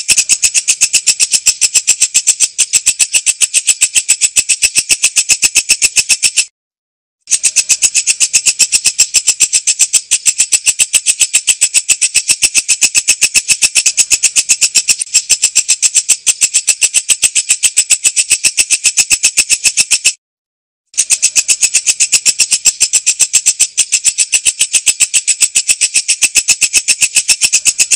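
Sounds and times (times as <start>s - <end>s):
insect clicking call: 0.0s - 6.5s, 7.3s - 20.2s, 21.0s - 27.9s.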